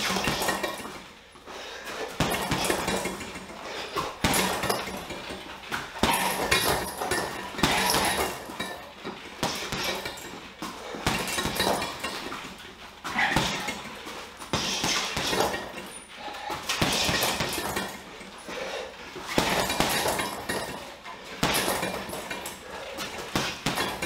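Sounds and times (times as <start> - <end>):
gloves punching heavy bag: 0.0 - 1.0, 1.8 - 24.0.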